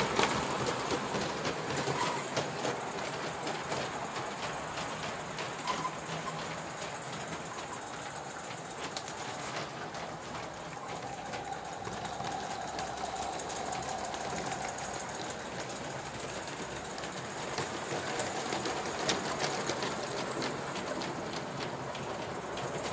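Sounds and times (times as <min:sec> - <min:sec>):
model steam locomotive chuffing: 0:00.0 - 0:22.9
wheels clicking on track: 0:00.0 - 0:22.9.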